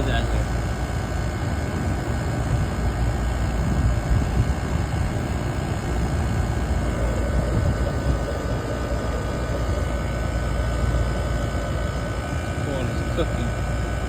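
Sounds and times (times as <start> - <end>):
air conditioner whooshing hum: 0.0 - 14.0.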